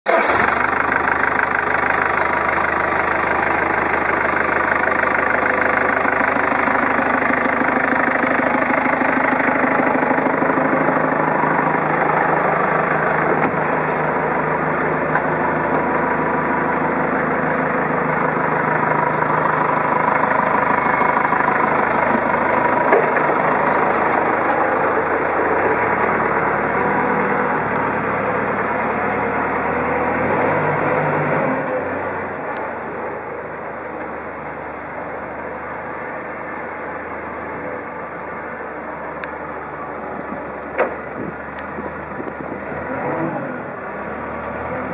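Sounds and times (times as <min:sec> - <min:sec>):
diesel forklift engine idling: 0:00.0 - 0:44.9.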